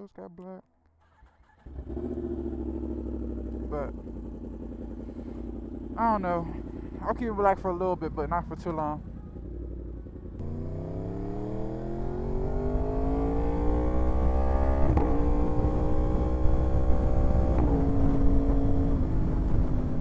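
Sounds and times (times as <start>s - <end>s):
motorcycle engine accelerating: 1.2s - 20.0s.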